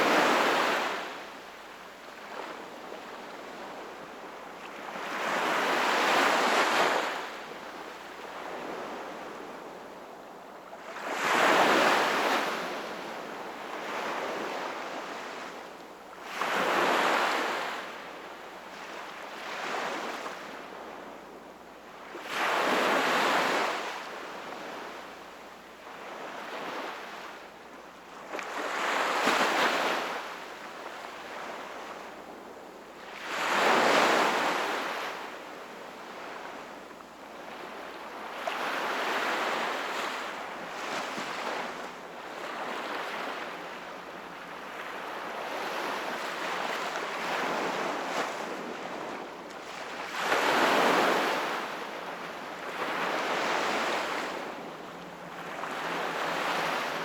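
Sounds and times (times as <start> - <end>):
ocean waves breaking on shore: 0.0 - 21.4, 22.0 - 27.5, 28.1 - 57.0.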